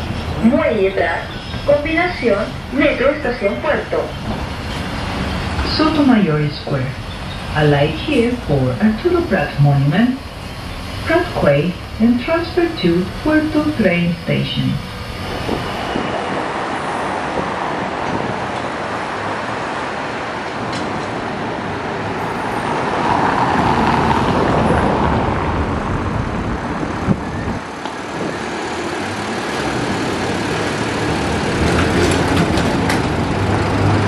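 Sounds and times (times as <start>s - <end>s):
trolleybus rolling by: 0.0s - 34.0s
tyres rumbling on cobblestones: 0.0s - 34.0s.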